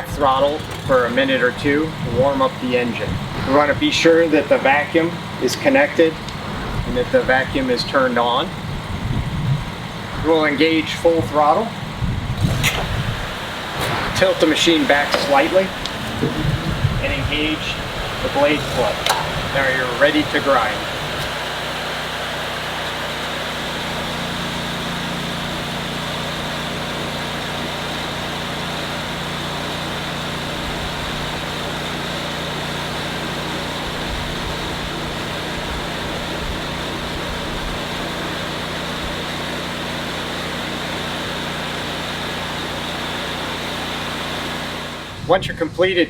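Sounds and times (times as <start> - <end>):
grinding heads on floor: 0.0 - 45.2
concrete grinder engine hum: 0.0 - 45.3.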